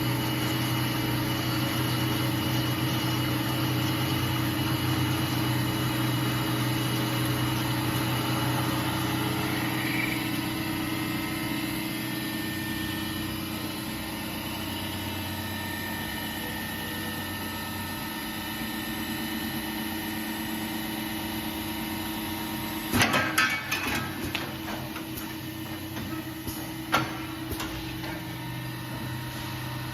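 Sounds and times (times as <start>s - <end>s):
drilling machine humming: 0.0s - 18.8s, 24.1s - 29.9s.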